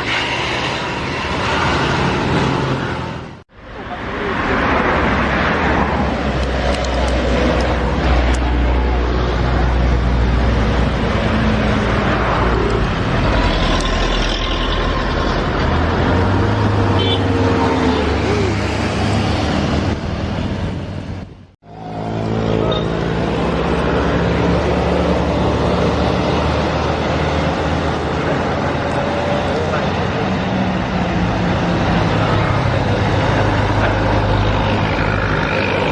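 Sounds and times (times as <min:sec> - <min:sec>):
heavy vehicles driving: 0:00.0 - 0:35.9.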